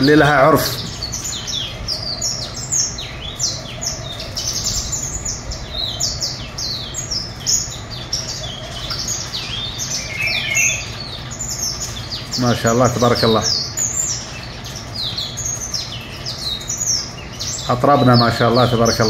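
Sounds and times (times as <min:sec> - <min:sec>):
songbird singing: 0:00.0 - 0:19.0
steady low hum: 0:00.0 - 0:19.0.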